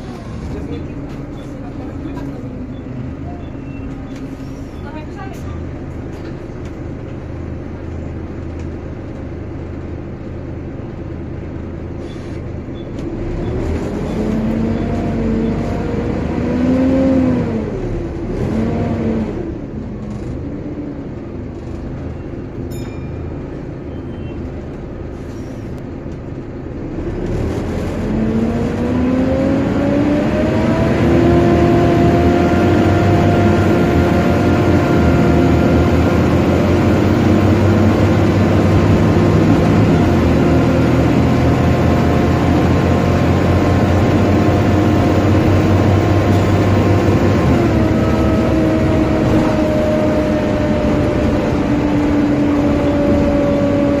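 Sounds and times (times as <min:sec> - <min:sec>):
bus engine hum and whine: 0:00.0 - 0:54.0.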